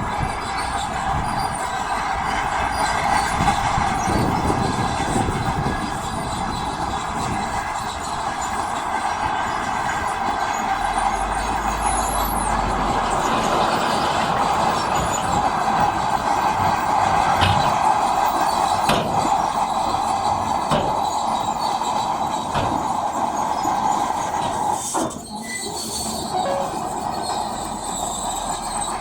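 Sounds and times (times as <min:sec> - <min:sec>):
heavy machinery engine drone: 0:00.0 - 0:29.0.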